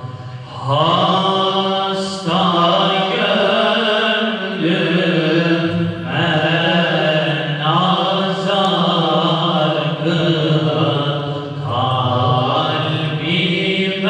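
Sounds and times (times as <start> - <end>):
men singing hymn in unison: 0.0 - 14.0.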